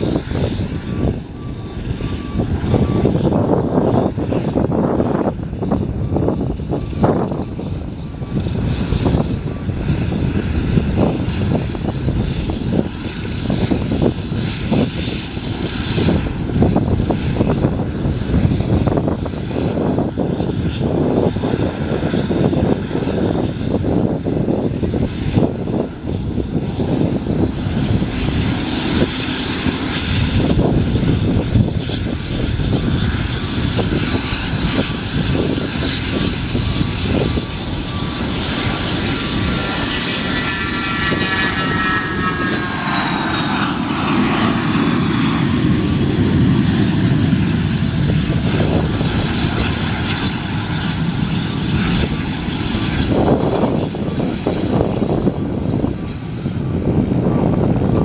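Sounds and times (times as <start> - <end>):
aircraft engines rumbling: 0.0 - 58.0.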